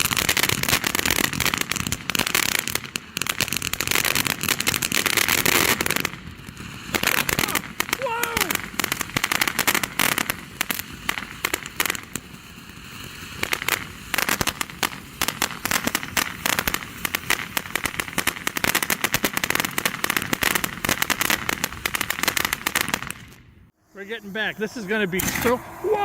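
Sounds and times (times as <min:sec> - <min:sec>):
firework crackling over hiss: 0:00.0 - 0:23.4.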